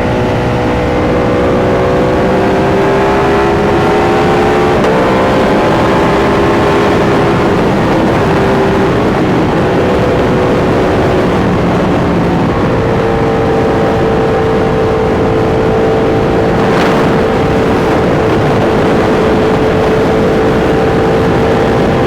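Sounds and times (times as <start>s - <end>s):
motorcycle engine running hard: 0.0s - 22.0s
steady rush of noise: 0.0s - 22.0s.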